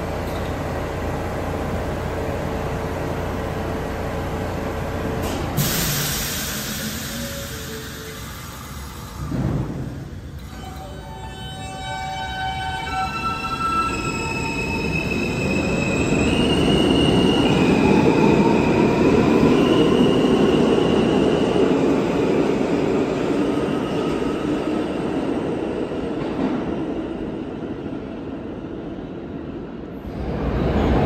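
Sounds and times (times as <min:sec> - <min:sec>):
train propulsion whine: 0:00.0 - 0:28.8.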